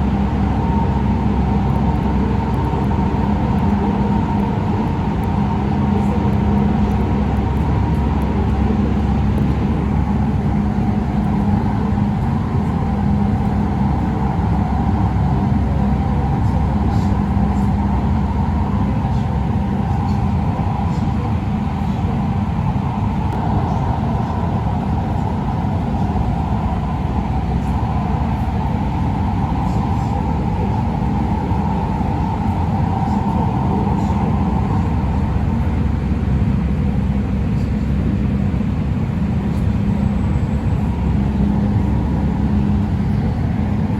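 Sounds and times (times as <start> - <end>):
light-rail car hum and rumble: 0.0 - 43.9.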